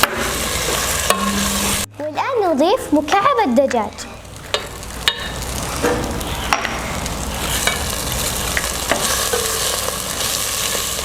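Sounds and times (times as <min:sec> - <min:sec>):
onion and garlic sizzling in oil: 0:00.0 - 0:01.9, 0:02.6 - 0:11.0.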